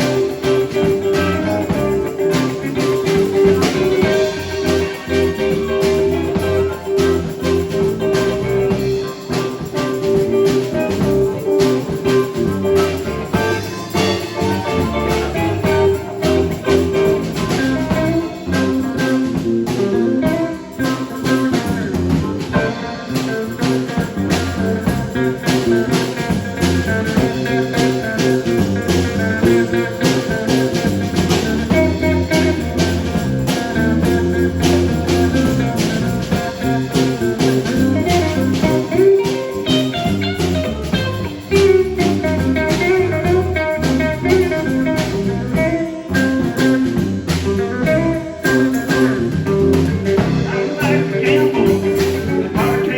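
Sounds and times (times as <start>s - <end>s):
band playing blues: 0.0s - 52.9s
drums steady beat: 0.0s - 52.9s
guitar: 0.0s - 52.9s.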